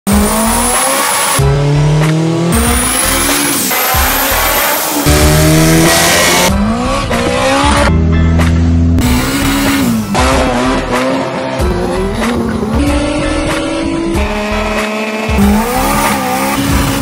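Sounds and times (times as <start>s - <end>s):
car engines at full throttle: 0.1s - 17.0s.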